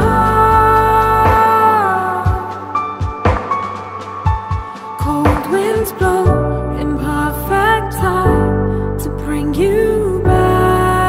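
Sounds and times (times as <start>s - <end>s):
slow chill background music: 0.0s - 11.0s.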